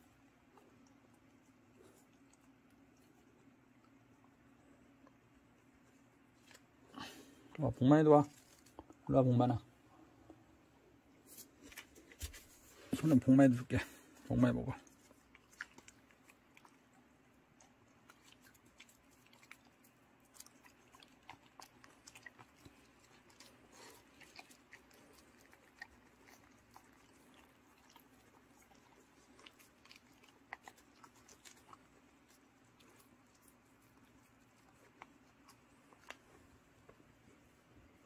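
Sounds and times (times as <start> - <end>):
dogs chewing: 0.0 - 9.2, 13.8 - 38.0.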